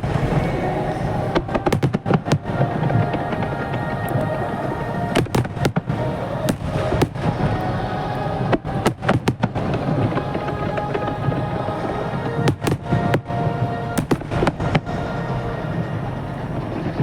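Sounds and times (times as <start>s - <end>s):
fireworks bangs: 0.0s - 17.0s
music: 0.0s - 17.0s.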